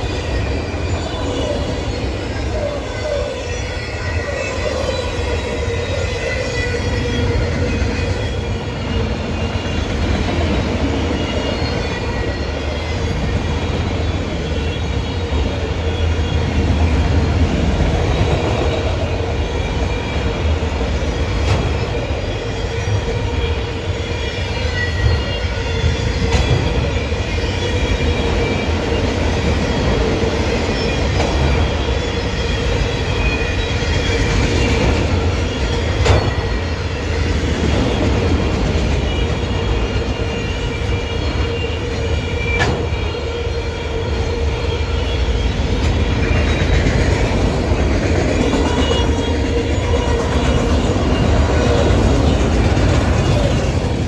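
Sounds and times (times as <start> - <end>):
high whining from train wheels: 0.0 - 54.0
train rumbling past: 0.0 - 54.0.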